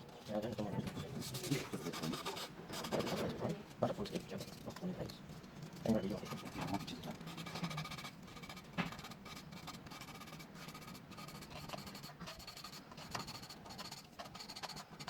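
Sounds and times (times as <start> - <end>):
faint scratching and rubbing: 0.0 - 15.0.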